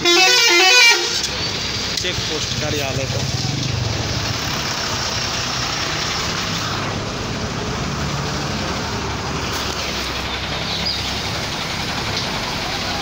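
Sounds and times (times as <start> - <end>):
road noise rushing: 0.0 - 13.0
vehicle engine rumble: 0.0 - 13.0.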